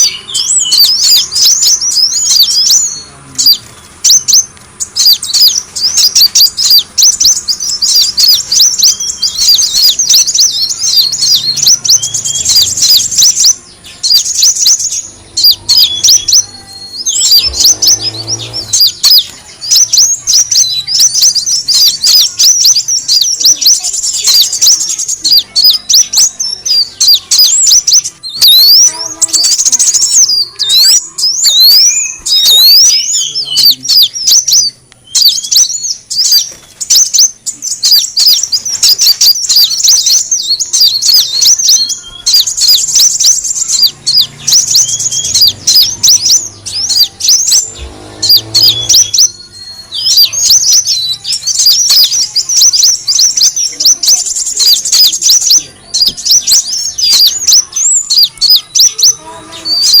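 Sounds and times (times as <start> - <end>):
sunbird chirping: 0.0 - 60.0.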